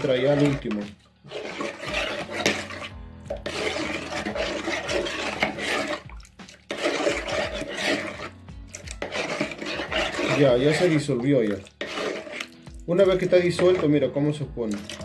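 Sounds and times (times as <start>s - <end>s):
spoon stirring water in bowl: 0.0s - 15.0s.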